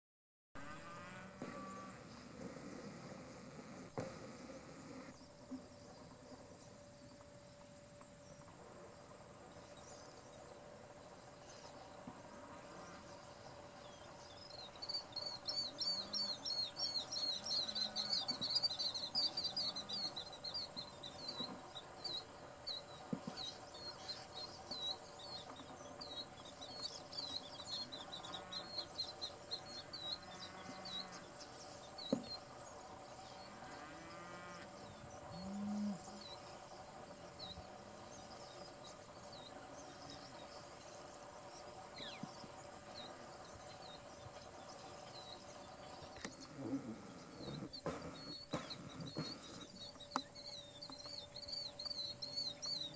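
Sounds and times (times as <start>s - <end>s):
flock of birds chattering: 8.4s - 52.9s.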